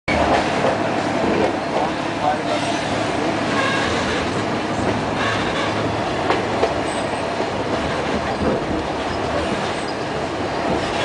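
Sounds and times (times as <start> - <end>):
train carriage rumble and rattle: 0.1 - 11.0.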